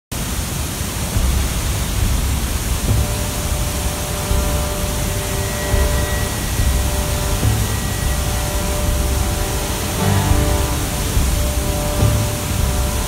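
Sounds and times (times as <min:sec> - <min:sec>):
waterfall rushing: 0:00.2 - 0:13.0.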